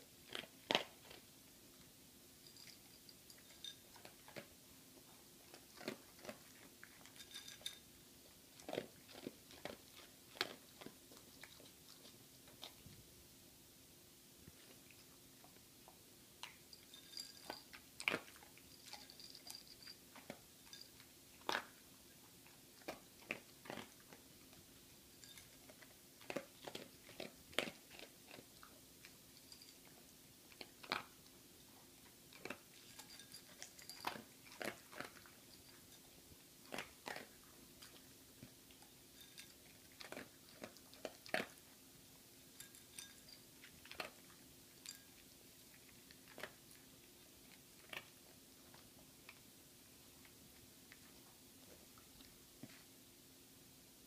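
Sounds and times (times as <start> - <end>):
dog crunching dry kibble: 0.2 - 1.3, 2.4 - 12.9, 16.4 - 41.8, 42.4 - 49.5.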